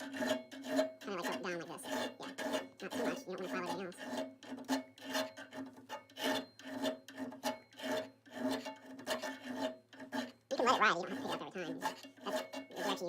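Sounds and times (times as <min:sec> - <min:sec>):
hand file rasping on metal: 0:00.0 - 0:13.0.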